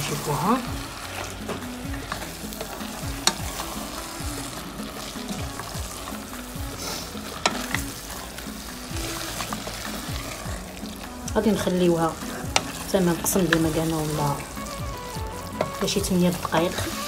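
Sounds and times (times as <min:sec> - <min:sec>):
cabbage sizzling in a pot: 0:00.0 - 0:17.0.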